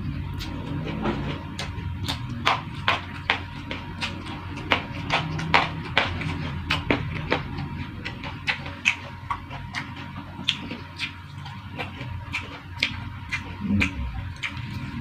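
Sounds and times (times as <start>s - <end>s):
low hum: 0.0s - 15.0s
person chewing: 0.0s - 15.0s.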